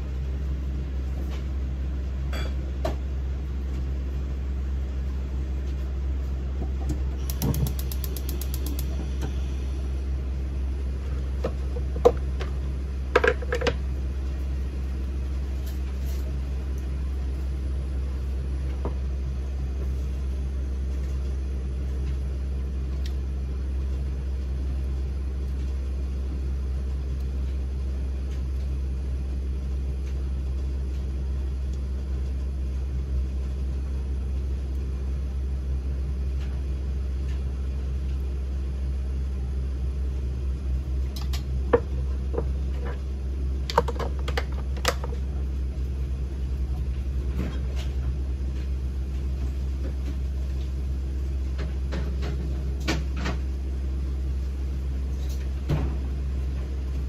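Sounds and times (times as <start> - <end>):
low rumble of gas stove: 0.0 - 57.0.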